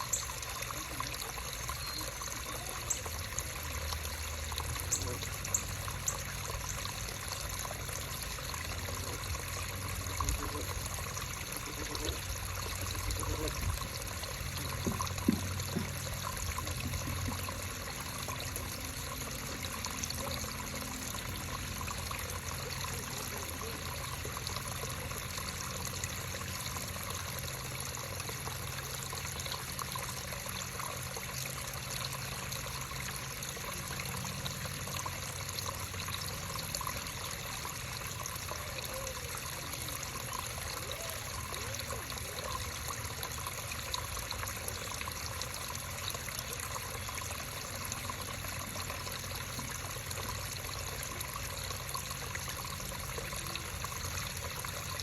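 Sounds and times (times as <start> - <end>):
creek trickling: 0.0 - 55.0.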